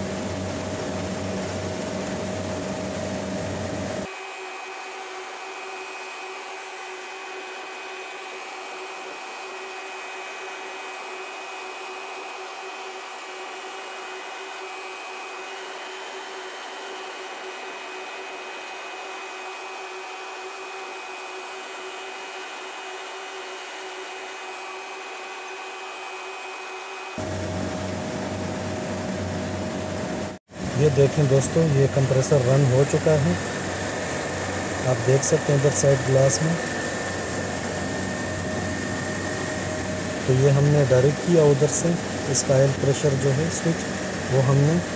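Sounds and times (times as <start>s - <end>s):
chiller hissing and humming: 0.0s - 44.9s.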